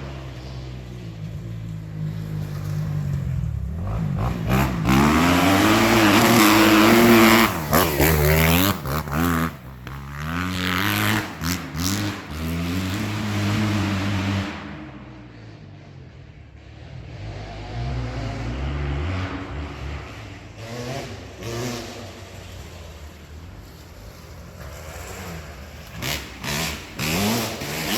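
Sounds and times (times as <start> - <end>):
motocross bike engine revving: 0.0 - 15.4, 16.8 - 27.9.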